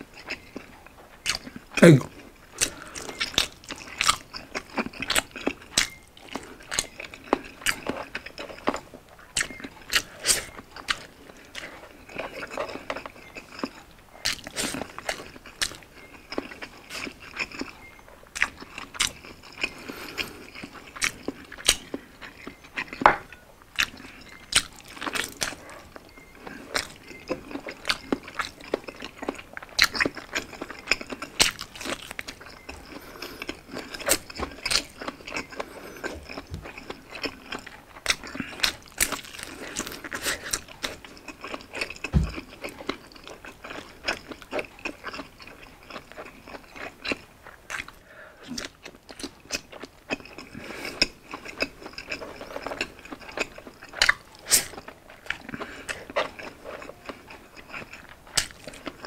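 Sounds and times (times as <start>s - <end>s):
biting and chewing: 0.0s - 59.0s.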